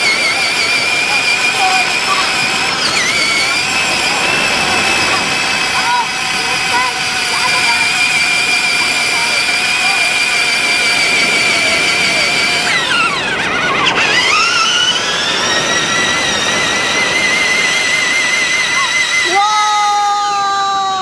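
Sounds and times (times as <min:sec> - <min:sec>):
toy truck electric motor whining: 0:00.0 - 0:21.0.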